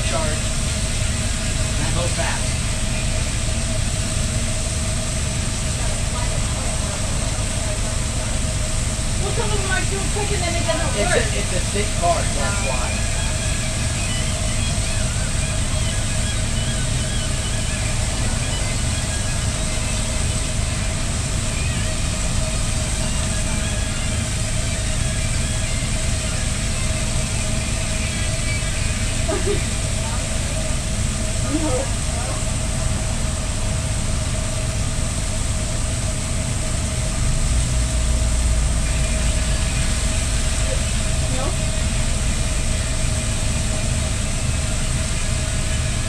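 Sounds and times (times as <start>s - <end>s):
low rumble and hiss: 0.0s - 46.0s
machine drone: 0.0s - 46.0s.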